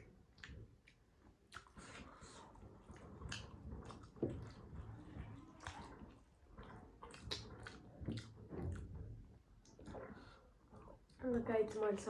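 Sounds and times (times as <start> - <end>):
wet chewing and mouth smacks: 0.0 - 11.9.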